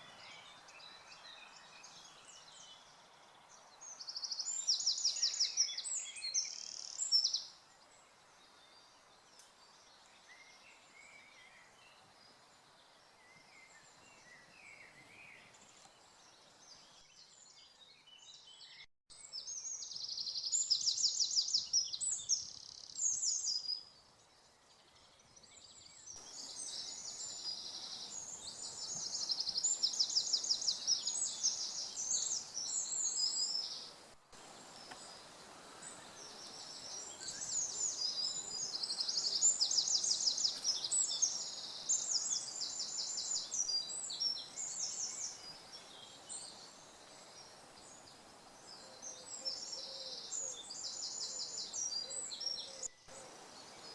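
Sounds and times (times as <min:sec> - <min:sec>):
faint background hiss: 0:00.0 - 0:53.9
songbirds singing trills: 0:00.0 - 0:53.9.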